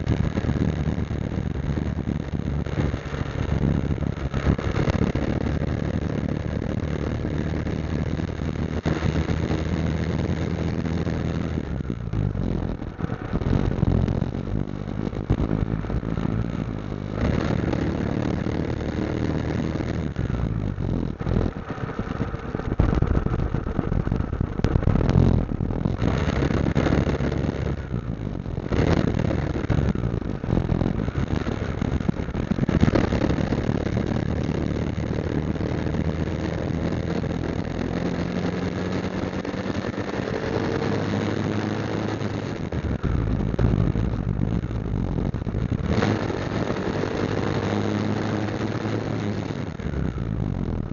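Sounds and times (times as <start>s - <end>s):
motorcycle engine revving: 0.0s - 50.9s
steady rushing noise: 0.0s - 50.9s.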